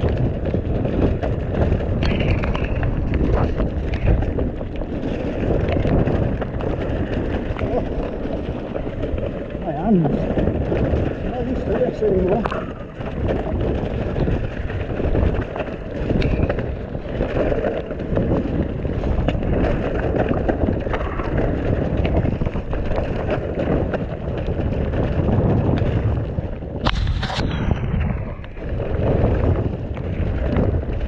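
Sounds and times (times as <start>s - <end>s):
bike knocking and rattling: 0.0s - 31.0s
tyres in mud: 0.0s - 31.0s
wind buffeting microphone: 0.0s - 31.0s.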